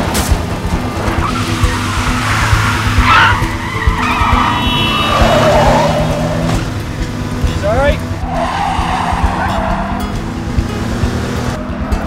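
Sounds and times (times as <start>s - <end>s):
sports car engines running hard: 0.0s - 12.0s
tyres squealing: 0.8s - 11.6s.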